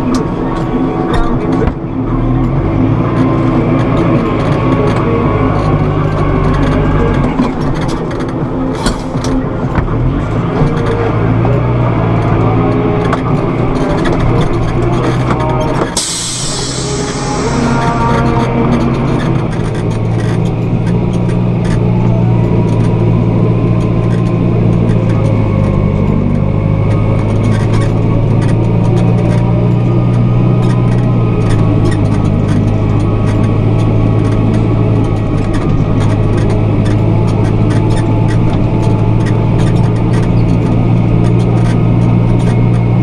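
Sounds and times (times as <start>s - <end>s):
heavy vehicle engine running: 0.0s - 43.0s.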